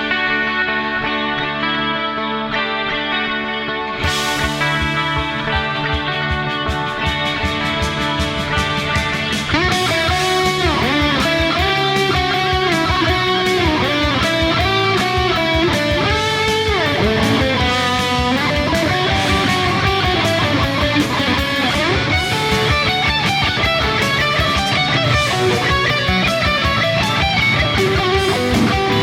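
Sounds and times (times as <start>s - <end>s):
electric guitar lead gliding notes: 0.0s - 29.0s
rock band backing track: 0.0s - 29.0s.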